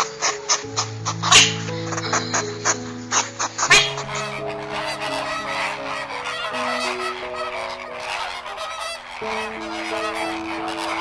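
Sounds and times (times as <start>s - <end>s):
flamingos calling: 0.0s - 11.0s
slow sustained background music: 0.0s - 11.0s.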